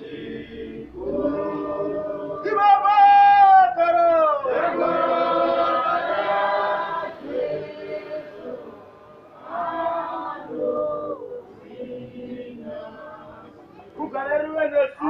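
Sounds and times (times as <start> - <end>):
congregation singing a chant: 0.0 - 15.0.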